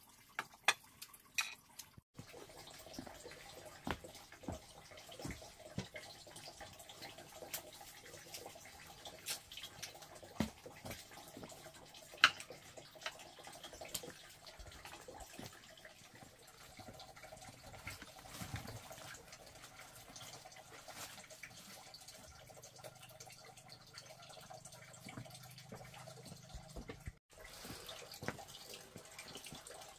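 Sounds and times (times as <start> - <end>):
water trickling and dripping: 0.0 - 29.9.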